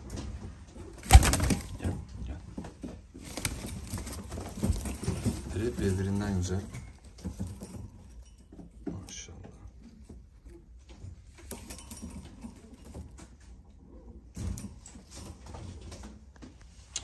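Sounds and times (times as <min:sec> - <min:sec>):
movement on cage floor: 0:00.0 - 0:17.0.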